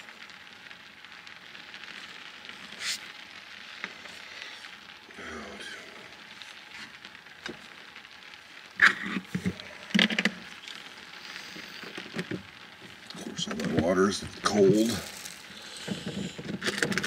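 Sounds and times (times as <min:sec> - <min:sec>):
rain pattering on a camper shell: 0:00.0 - 0:17.0.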